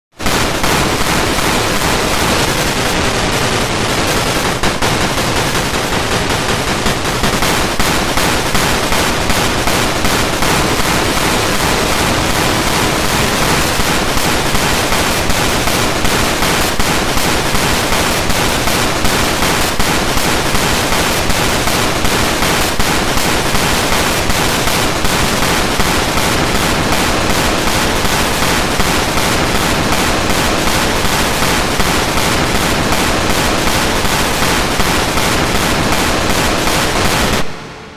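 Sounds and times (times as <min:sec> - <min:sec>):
harsh distorted noise with crackle: 0:00.1 - 0:37.9.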